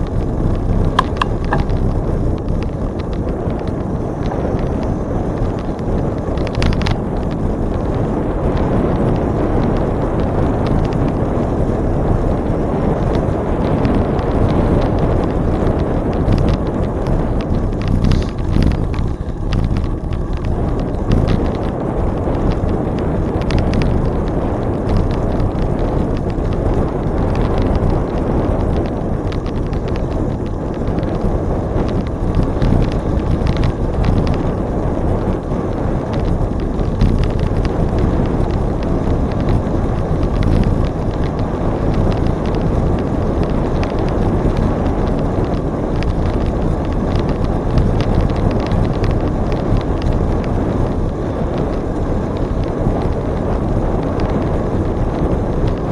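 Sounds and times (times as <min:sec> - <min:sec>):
light ticks and crackles: 0:00.0 - 0:55.9
wind rushing over microphone: 0:00.0 - 0:55.9.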